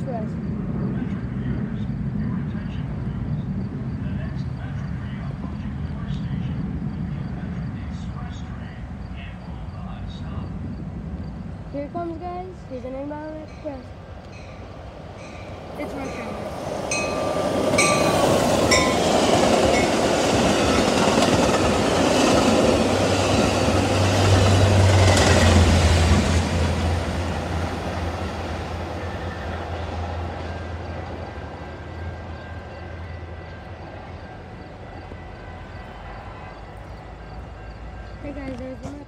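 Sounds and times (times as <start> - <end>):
diesel locomotive engine hum: 0.0 - 39.0
train clacking over rails: 0.0 - 39.0.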